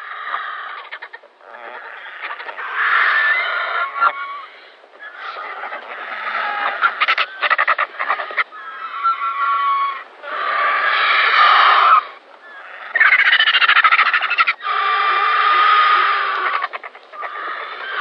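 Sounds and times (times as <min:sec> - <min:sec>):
vulture harsh rasping calls: 0:00.0 - 0:18.0.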